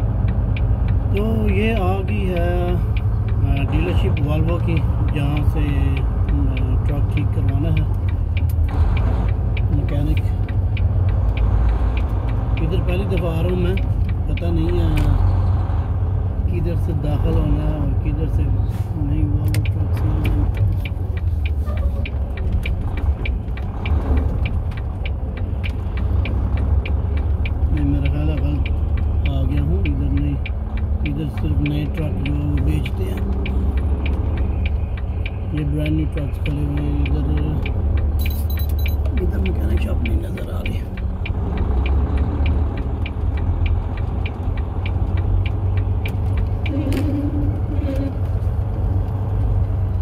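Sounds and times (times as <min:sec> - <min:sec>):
light regular ticking: 0:00.0 - 0:50.0
truck diesel engine rumble: 0:00.0 - 0:50.0.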